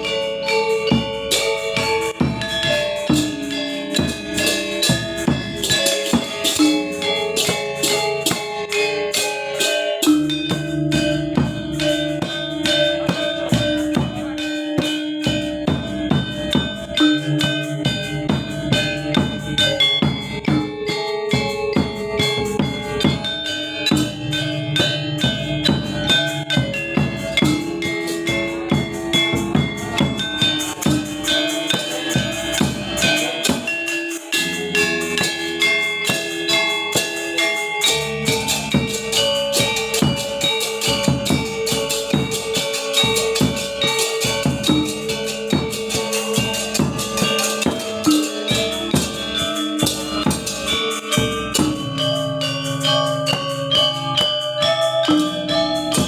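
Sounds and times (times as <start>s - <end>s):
drums beating: 0.0s - 56.0s
metallophones struck in fast patterns: 0.0s - 56.0s.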